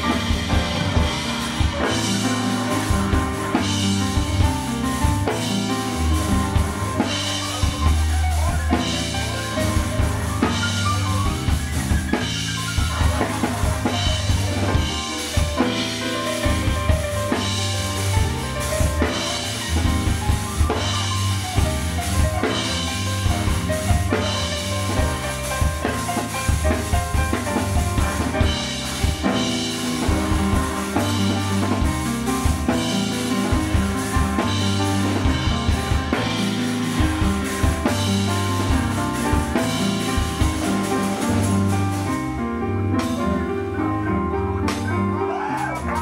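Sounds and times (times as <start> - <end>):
drum kit: 0.0 - 46.0
electric bass guitar: 0.0 - 46.0.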